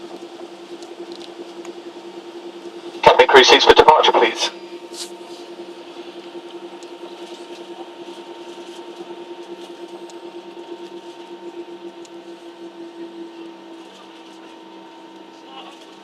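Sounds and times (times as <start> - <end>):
cabin air system running: 0.0 - 15.3
jet engines idling: 0.0 - 16.0.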